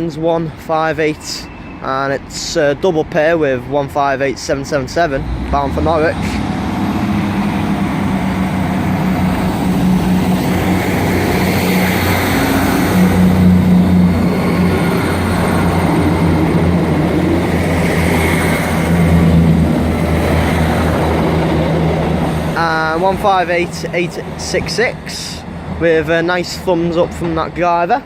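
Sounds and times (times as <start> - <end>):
diesel train engines humming: 0.0 - 28.0.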